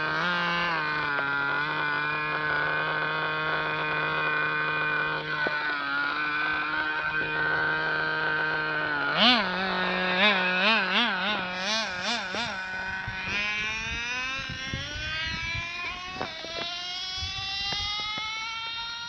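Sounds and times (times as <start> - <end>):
toy car engine revving: 0.0 - 19.0.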